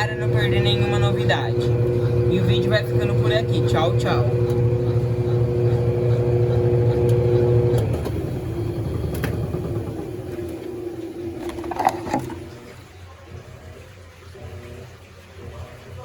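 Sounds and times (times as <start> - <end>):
washing machine motor humming: 0.0 - 16.0.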